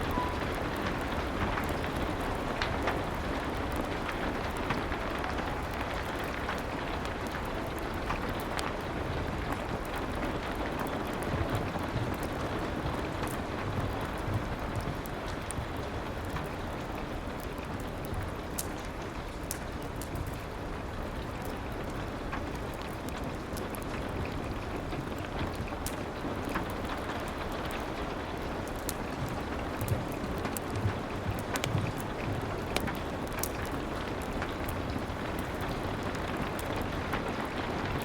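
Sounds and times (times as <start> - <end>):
steady rain: 0.0 - 38.0
wood fire crackling: 0.0 - 38.0.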